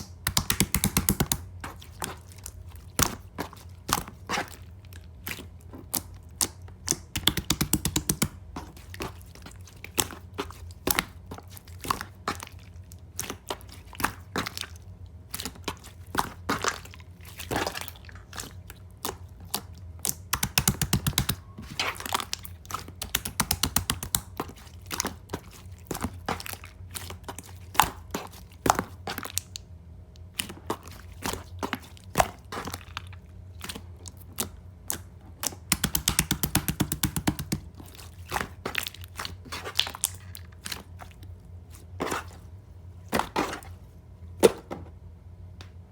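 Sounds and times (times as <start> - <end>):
slime squishing with sticky clicks: 0.0 - 43.8.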